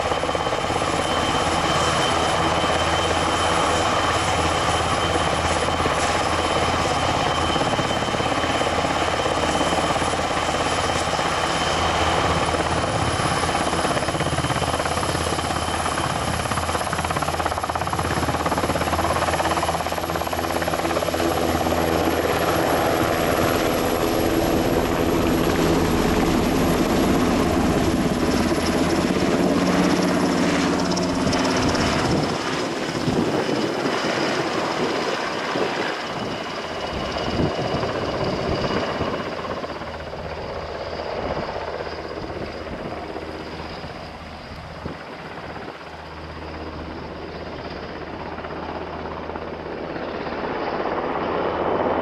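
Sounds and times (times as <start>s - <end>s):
helicopter engines and rotors: 0.0s - 52.0s
high turbine whine: 0.0s - 52.0s.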